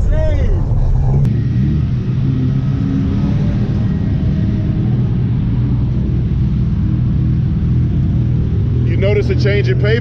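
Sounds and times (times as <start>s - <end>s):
car engine running under load: 0.0s - 10.0s.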